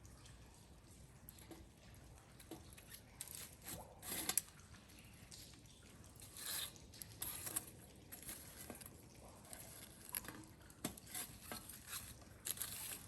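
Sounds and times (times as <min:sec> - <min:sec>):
rustling and scraping of objects: 0:01.3 - 0:13.0.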